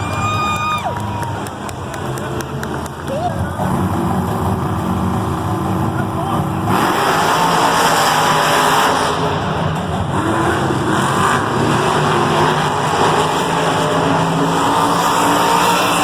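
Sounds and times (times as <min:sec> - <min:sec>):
monster truck engines revving: 0:00.0 - 0:16.0.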